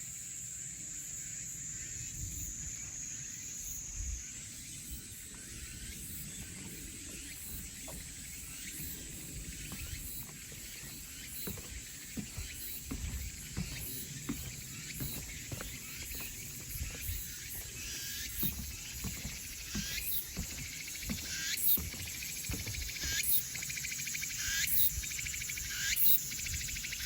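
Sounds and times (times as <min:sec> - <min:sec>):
crickets and cicadas trilling: 0:00.0 - 0:27.0.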